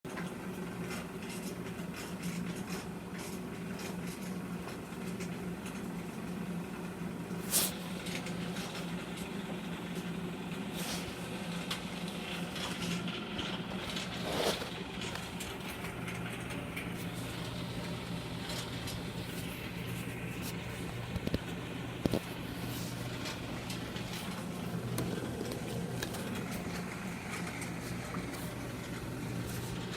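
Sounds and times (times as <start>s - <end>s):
dryer motor hum: 0.1s - 29.9s.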